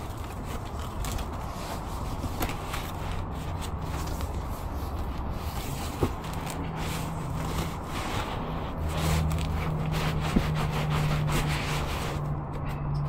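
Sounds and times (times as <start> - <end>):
foam and cardboard scraping: 0.0 - 12.4.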